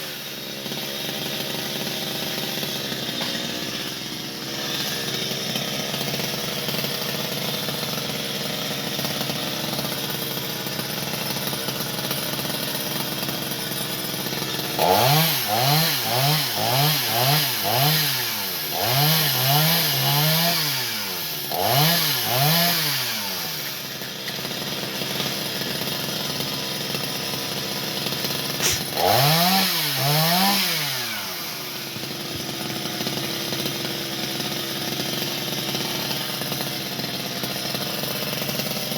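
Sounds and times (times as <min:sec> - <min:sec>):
chainsaw engine idling and revving: 0:00.0 - 0:38.9.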